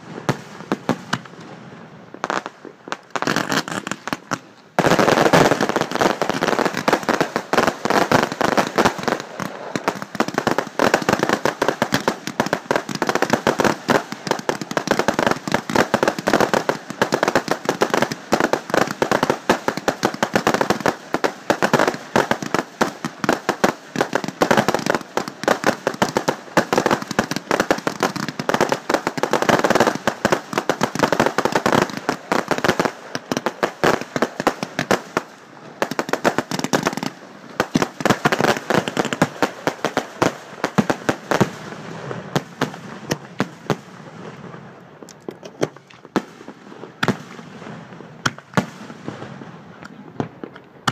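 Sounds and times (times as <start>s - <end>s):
fireworks crackling and banging: 0.0s - 50.9s.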